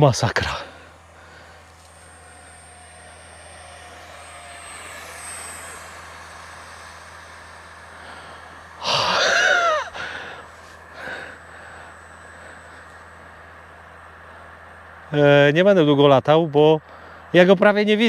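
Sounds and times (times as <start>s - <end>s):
electric ducted fan whining: 0.0s - 18.0s.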